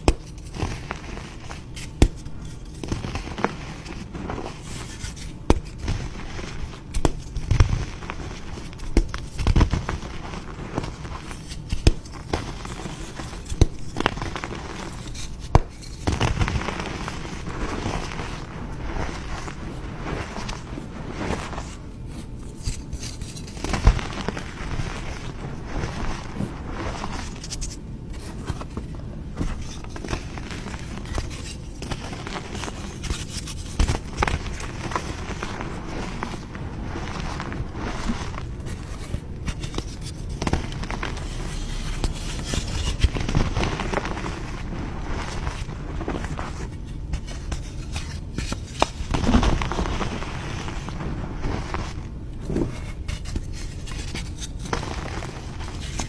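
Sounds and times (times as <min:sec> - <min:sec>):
chalk crunching and crackling: 0:00.0 - 0:56.0.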